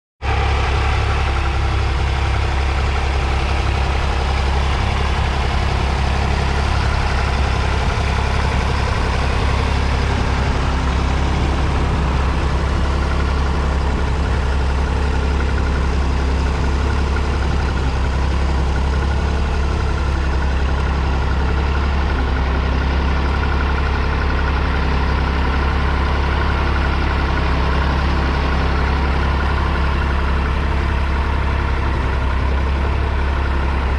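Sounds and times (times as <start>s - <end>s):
diesel tractor engine running: 0.2s - 33.9s.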